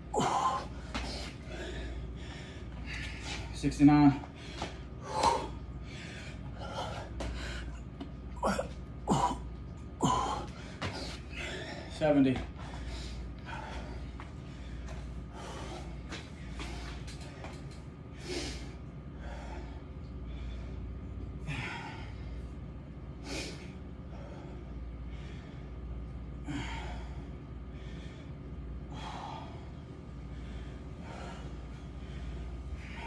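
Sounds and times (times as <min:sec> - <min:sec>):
man breathing hard: 0:00.0 - 0:33.0
steady low hum: 0:00.0 - 0:33.0.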